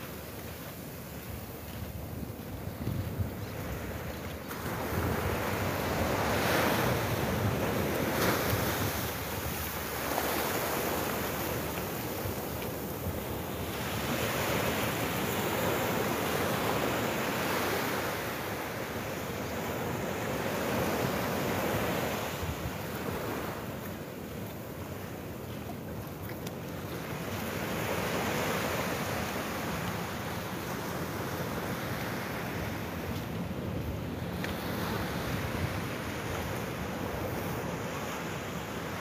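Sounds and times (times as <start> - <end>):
waves washing on sand: 0.0 - 39.0
wind on microphone: 1.2 - 39.0.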